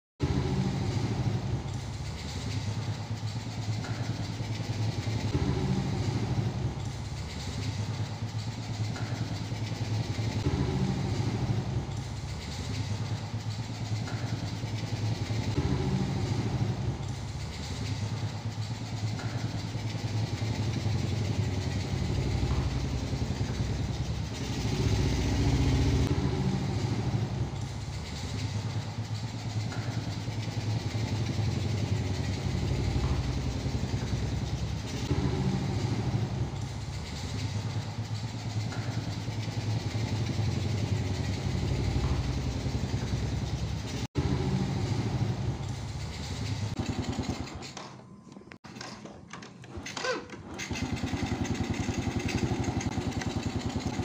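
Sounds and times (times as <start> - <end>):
moped engine running: 0.2 - 48.0, 48.8 - 54.0.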